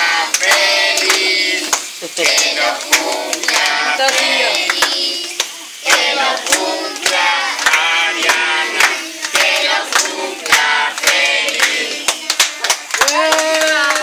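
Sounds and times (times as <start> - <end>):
group singing: 0.0 - 12.7
people clapping: 0.0 - 14.0.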